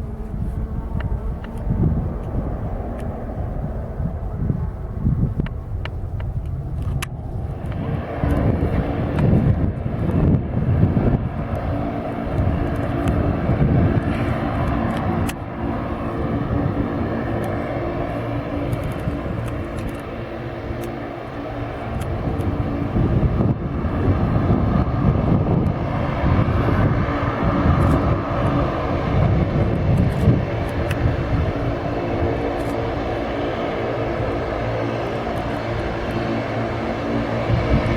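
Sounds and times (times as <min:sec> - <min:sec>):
turboprop engines droning: 0:00.0 - 0:37.9
wind buffeting microphone: 0:00.0 - 0:37.9.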